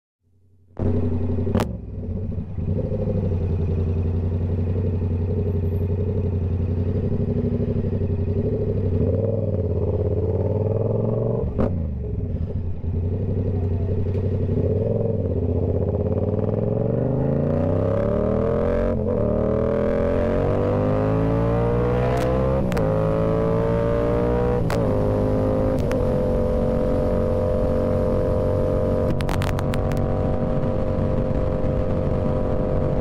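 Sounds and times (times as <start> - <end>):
motorcycle engine cruising: 0.6 - 33.0.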